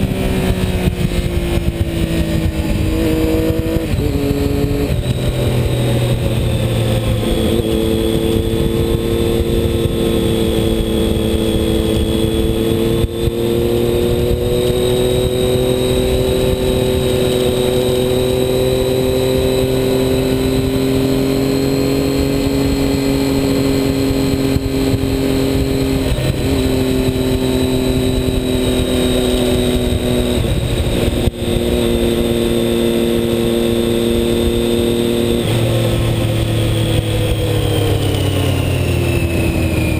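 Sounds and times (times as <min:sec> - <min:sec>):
racing motorcycle engine: 0:00.0 - 0:39.9
wind rush: 0:00.0 - 0:39.9.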